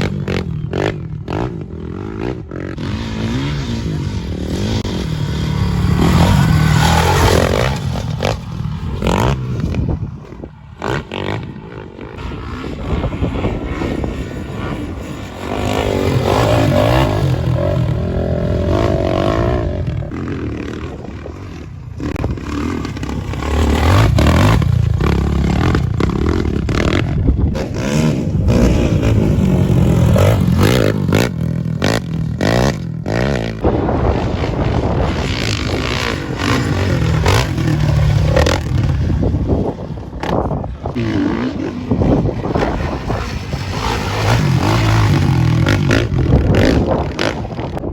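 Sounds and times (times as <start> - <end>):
off-road motorcycle engines revving: 0.0 - 47.9.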